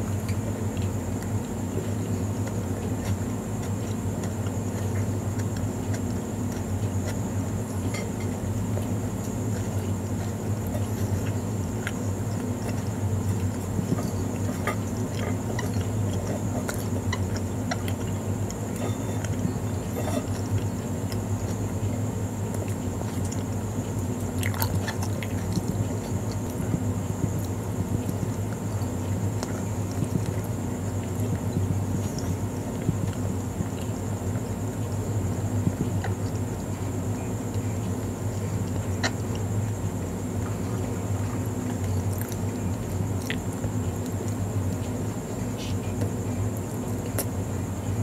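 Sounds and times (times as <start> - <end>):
chewing bread: 0.0 - 48.0
low electrical hum: 0.0 - 48.0.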